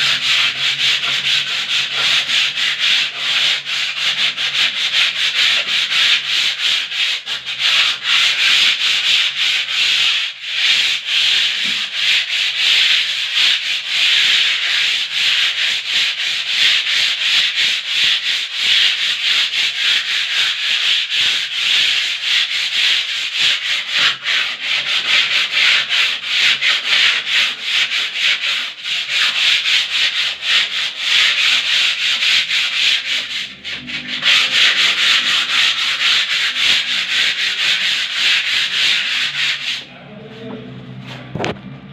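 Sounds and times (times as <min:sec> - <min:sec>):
sanding a wall: 0:00.0 - 0:40.5.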